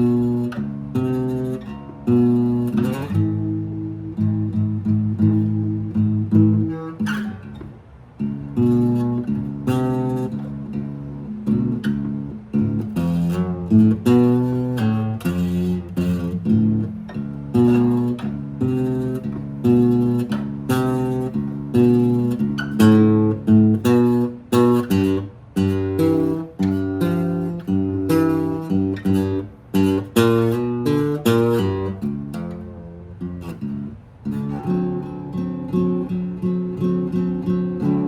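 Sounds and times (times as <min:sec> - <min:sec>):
acoustic guitar plucked and strummed: 0:00.0 - 0:38.0.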